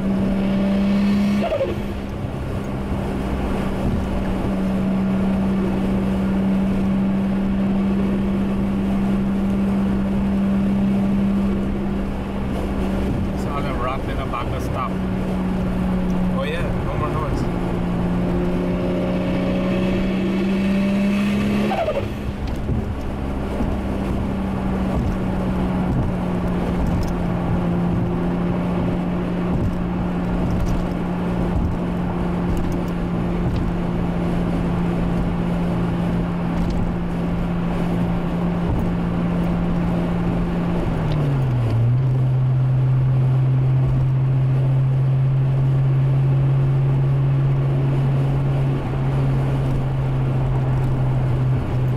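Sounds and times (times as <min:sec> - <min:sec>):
car engine droning: 0:00.0 - 0:51.9.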